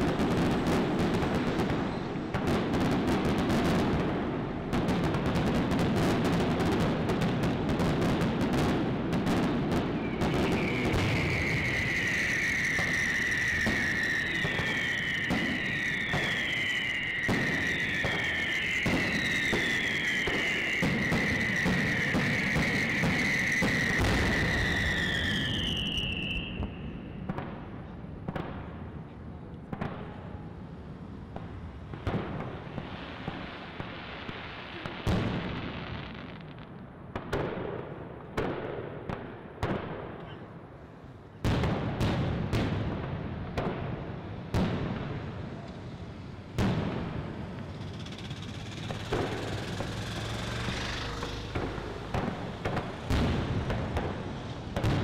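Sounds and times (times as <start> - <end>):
falling firework whistles: 0.0 - 27.7, 29.8 - 37.6, 43.7 - 55.0
continuous high whistling tone: 0.0 - 37.0, 43.7 - 55.0
fireworks bangs and pops: 0.0 - 55.0.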